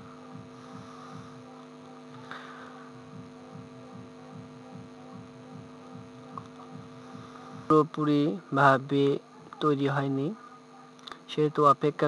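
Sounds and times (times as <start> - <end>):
electrical hum with throbbing pulse: 0.0 - 12.0.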